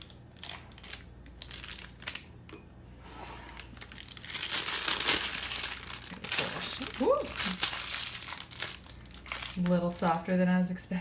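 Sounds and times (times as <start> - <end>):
piping bag crinkling and rustling: 0.0 - 2.6, 3.3 - 10.7.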